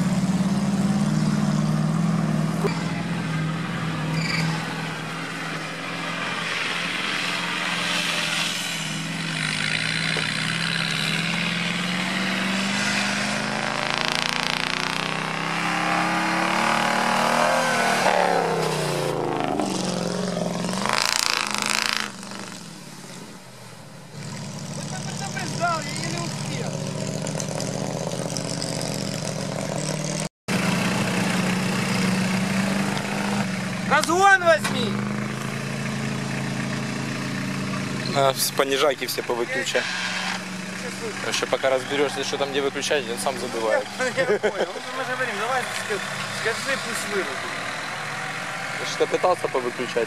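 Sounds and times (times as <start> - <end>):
vehicle engines revving: 0.0 - 50.0.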